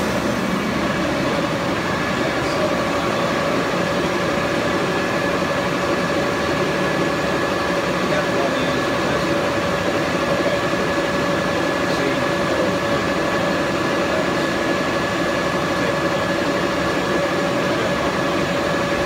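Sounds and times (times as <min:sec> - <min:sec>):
lathe mechanical drone: 0:00.0 - 0:19.0
steady machine whine: 0:00.0 - 0:19.0.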